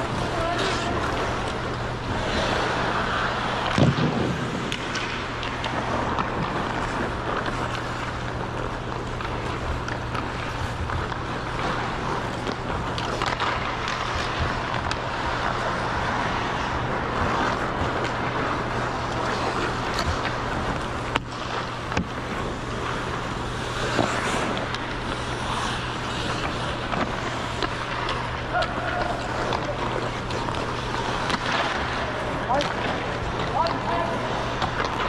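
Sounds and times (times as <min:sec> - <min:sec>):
ice skates scraping: 0:00.0 - 0:35.0.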